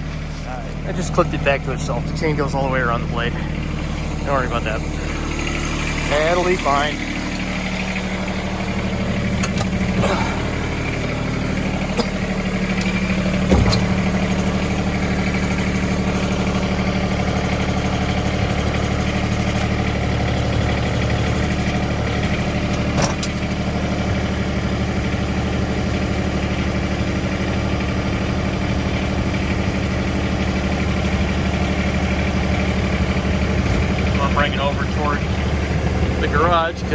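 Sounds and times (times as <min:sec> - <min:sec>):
tractor engine idling: 0:00.0 - 0:36.9.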